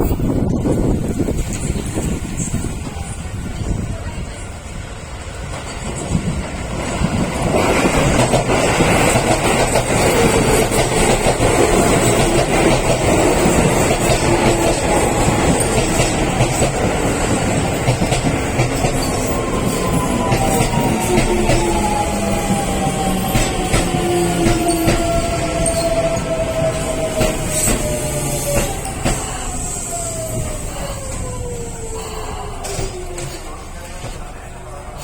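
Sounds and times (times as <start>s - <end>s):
electric train wheels clicking: 5.3s - 35.0s.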